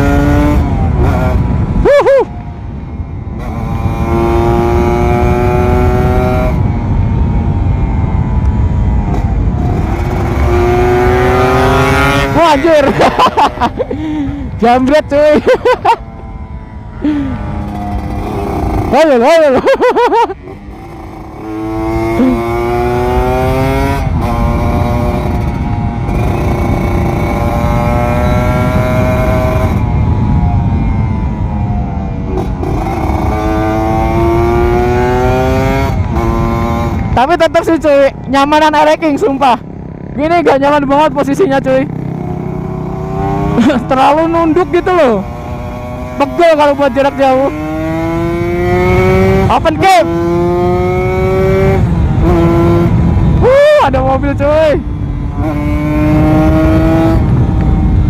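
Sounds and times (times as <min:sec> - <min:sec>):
wind rumble on microphone: 0:00.0 - 0:15.4, 0:20.3 - 0:46.2, 0:47.4 - 0:58.0
two-stroke engine revving: 0:03.4 - 0:06.6, 0:09.1 - 0:14.5, 0:17.0 - 0:29.8, 0:32.3 - 0:58.0.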